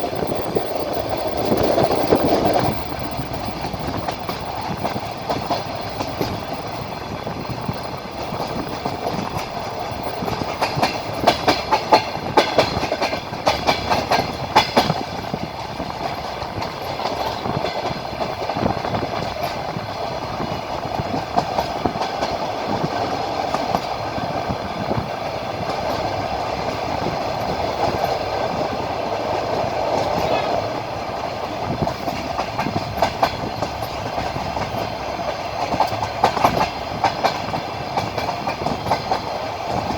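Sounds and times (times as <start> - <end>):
train rolling rumble: 0.0 - 39.9
train wheels clacking over rail joints: 0.0 - 39.9.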